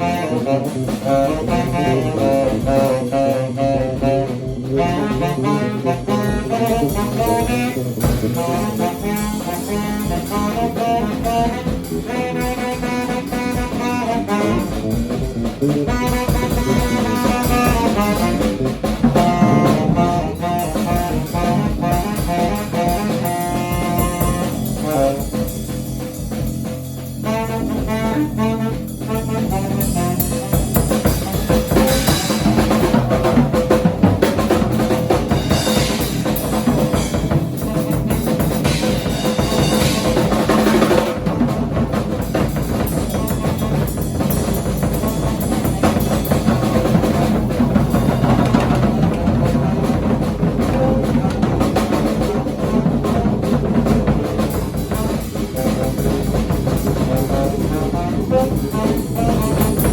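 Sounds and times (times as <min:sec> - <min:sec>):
bass: 0:00.0 - 0:59.9
drum kit and cymbals: 0:00.0 - 0:59.9
tenor saxophone: 0:00.0 - 0:59.9.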